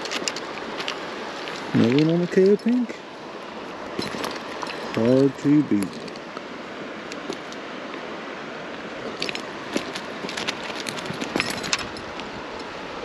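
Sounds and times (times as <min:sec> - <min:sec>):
small creek rushing: 0:00.0 - 0:13.0.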